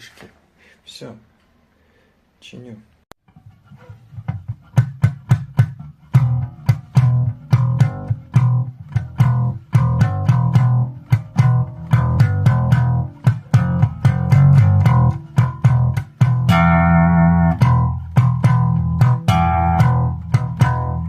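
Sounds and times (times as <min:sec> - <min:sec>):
bass guitar plucked notes: 0:03.3 - 0:21.0.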